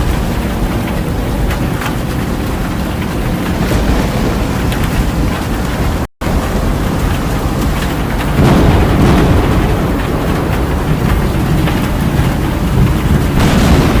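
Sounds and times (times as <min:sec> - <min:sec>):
deep thunder rumble: 0:00.0 - 0:14.0
heavy rain: 0:00.0 - 0:14.0.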